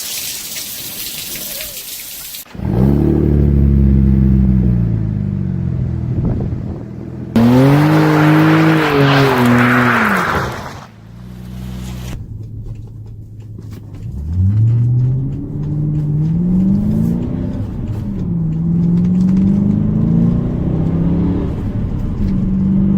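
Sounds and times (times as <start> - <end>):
car engine accelerating: 2.5 - 22.9.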